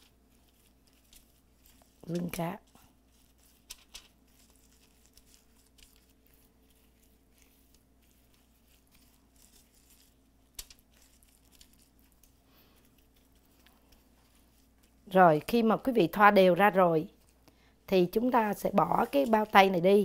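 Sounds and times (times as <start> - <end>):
gloved hands rubbing: 0.0 - 17.5, 18.1 - 20.0
aluminium foil crinkling: 0.0 - 20.0.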